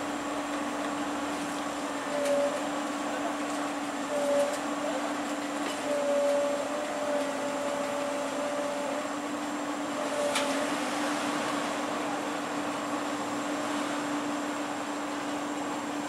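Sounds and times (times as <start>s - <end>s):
heavy machinery humming whine: 0.0s - 16.0s.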